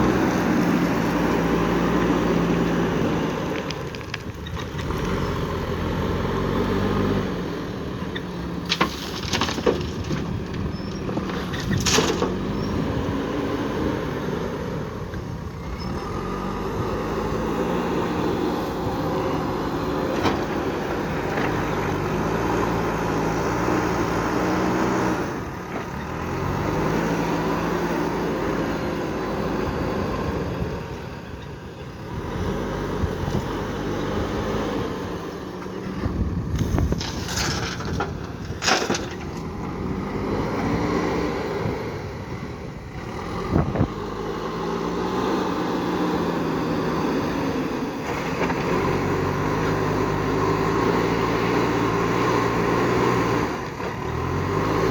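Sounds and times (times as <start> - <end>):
backhoe diesel engine working: 0.0 - 54.9.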